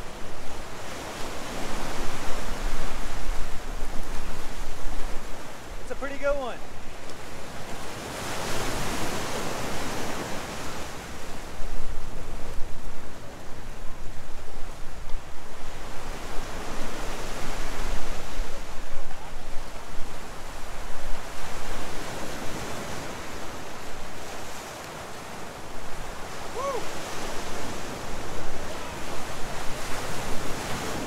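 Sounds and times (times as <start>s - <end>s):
ocean surf on rocky shore: 0.0s - 31.0s.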